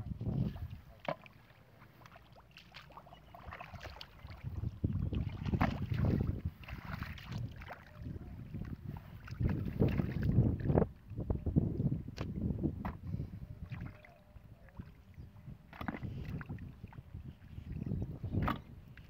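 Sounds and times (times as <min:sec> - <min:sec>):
muddy water splashing: 0:00.0 - 0:11.2, 0:12.1 - 0:19.0.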